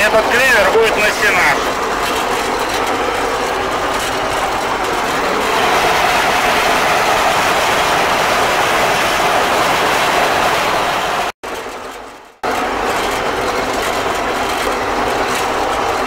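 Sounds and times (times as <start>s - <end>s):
harvester engine and cutter running: 0.0s - 16.0s.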